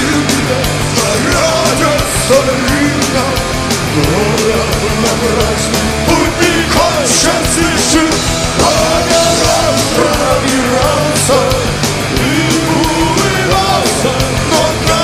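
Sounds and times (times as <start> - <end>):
man singing and shouting: 0.0 - 15.0
punk rock band playing live: 0.0 - 15.0.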